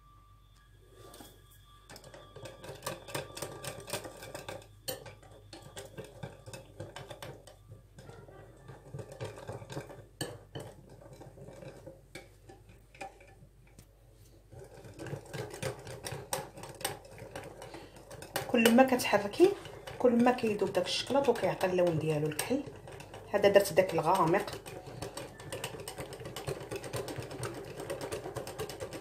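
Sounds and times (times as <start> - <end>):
wire whisk scraping ceramic bowl: 1.0 - 13.4, 14.5 - 29.0.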